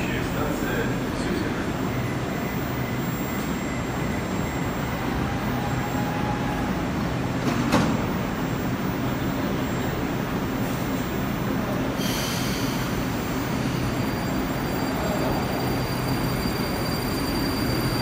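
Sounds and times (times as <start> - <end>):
metro train mechanical hum: 0.0 - 18.0.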